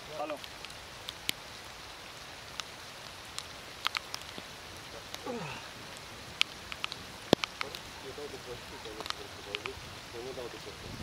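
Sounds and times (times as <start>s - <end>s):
rain hissing: 0.0s - 11.0s
raindrops ticking on camera: 0.0s - 11.0s.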